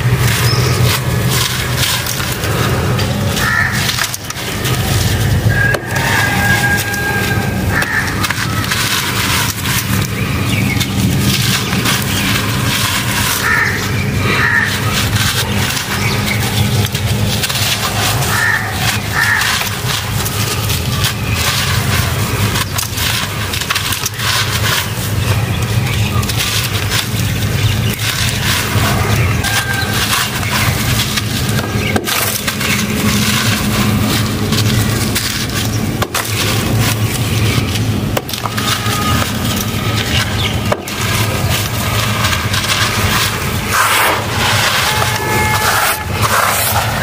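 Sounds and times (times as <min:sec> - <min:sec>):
dry cement mix crumbling: 0:00.0 - 0:47.0
gritty dirt crunching: 0:00.0 - 0:47.0
steady low hum: 0:00.0 - 0:47.0.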